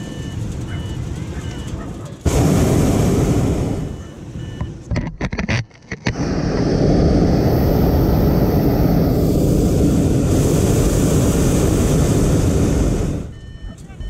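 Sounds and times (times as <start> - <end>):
propane burner blasting: 0.0 - 4.4, 6.0 - 13.6.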